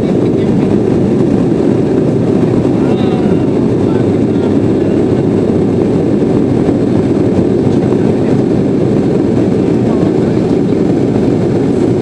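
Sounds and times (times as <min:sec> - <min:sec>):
air rushing over fuselage: 0:00.0 - 0:12.0
jet engines roaring in cabin: 0:00.0 - 0:12.0.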